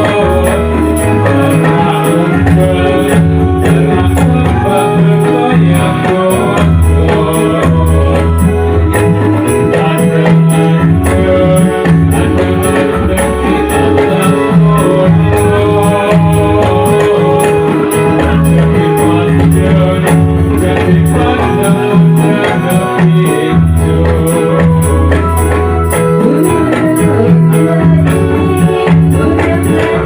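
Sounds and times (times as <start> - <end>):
held melody tones: 0.0 - 30.0.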